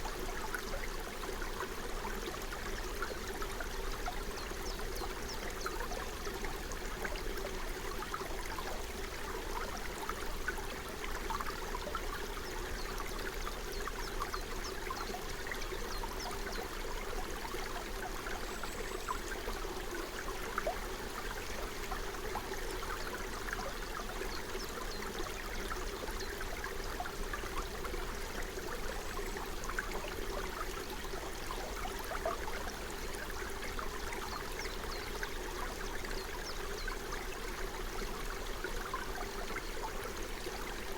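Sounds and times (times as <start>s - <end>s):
forest stream flowing: 0.0s - 40.9s.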